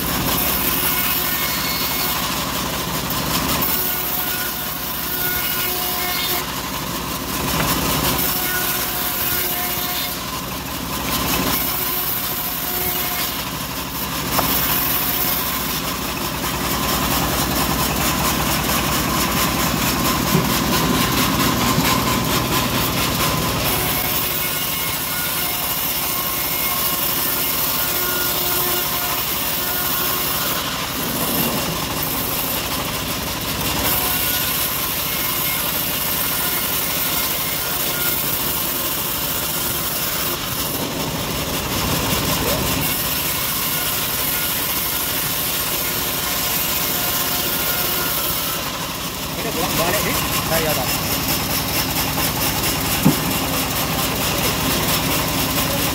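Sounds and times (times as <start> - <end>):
saw blade cutting wood: 0.0 - 55.9
sawmill machine drone: 0.0 - 55.9.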